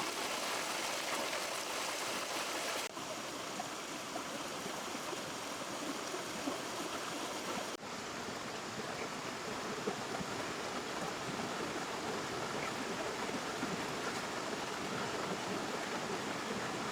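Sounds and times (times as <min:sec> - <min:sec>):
river water flowing over stones: 0:00.0 - 0:16.9.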